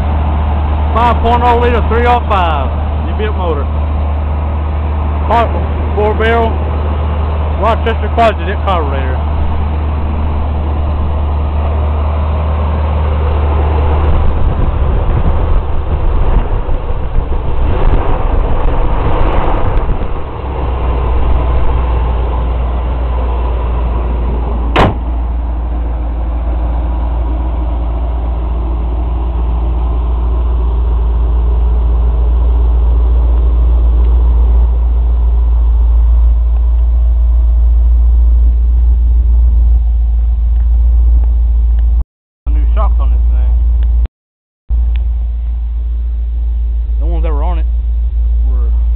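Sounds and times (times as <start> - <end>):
pickup engine idling: 0.0 - 44.0, 44.7 - 48.9.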